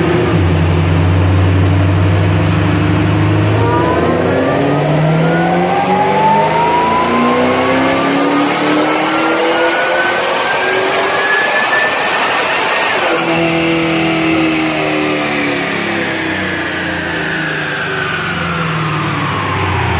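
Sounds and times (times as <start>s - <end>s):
car engine revving on dyno: 0.0s - 19.9s.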